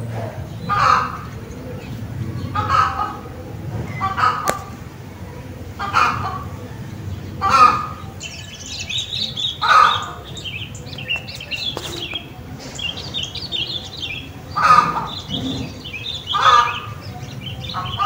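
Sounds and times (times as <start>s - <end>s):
harsh large bird calls: 0.0s - 18.0s
small birds chirping: 0.0s - 18.0s.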